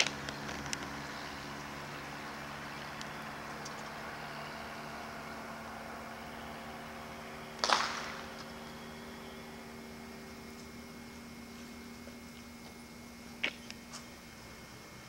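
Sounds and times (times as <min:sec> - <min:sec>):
constant low hum: 0:00.0 - 0:15.0
steady hiss: 0:00.0 - 0:15.0.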